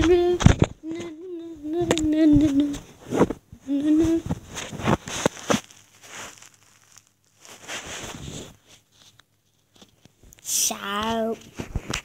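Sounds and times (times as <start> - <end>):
handling rustling and scraping: 0.0 - 10.5, 11.2 - 12.0.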